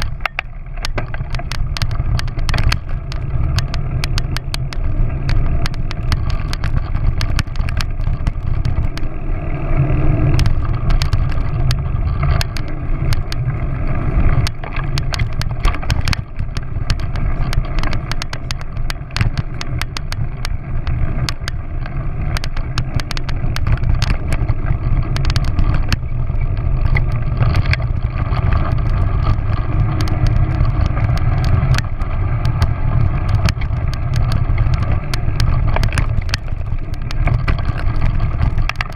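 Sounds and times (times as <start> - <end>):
sharp knocks and rattles: 0.0 - 9.2, 10.1 - 13.5, 14.2 - 38.9
low rumble of vehicle movement: 0.0 - 38.9.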